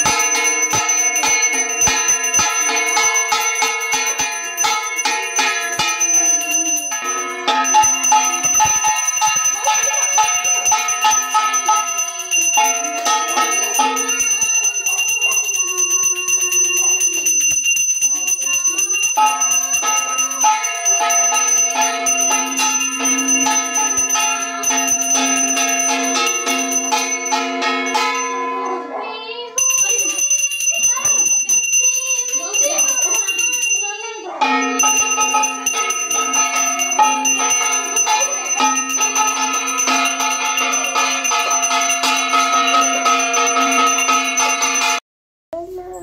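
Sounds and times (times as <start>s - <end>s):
hand bell ringing rapidly: 0.0s - 45.0s.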